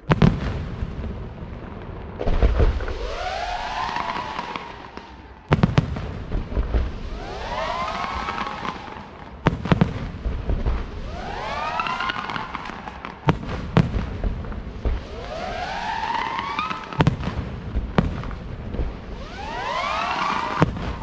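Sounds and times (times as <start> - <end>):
crackling rumble: 0.0 - 21.0
fireworks bangs: 0.0 - 21.0
fireworks whistling: 2.2 - 21.0.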